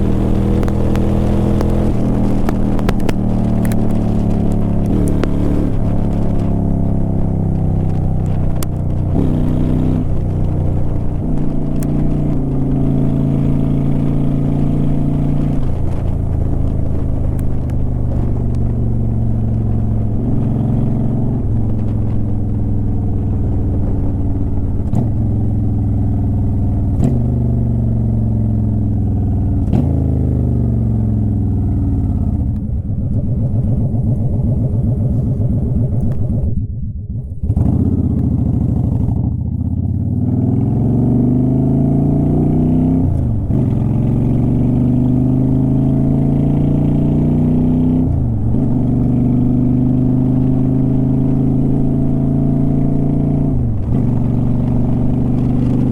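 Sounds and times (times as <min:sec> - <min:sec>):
motorcycle engine revving: 0:00.0 - 0:55.9
wind rushing over microphone: 0:00.0 - 0:55.9.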